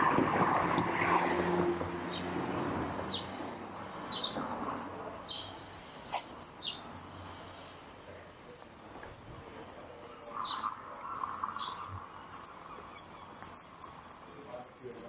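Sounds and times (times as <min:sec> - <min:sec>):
small birds chirping: 0:02.0 - 0:15.0
high-pitched ticking bird calls: 0:02.1 - 0:15.0.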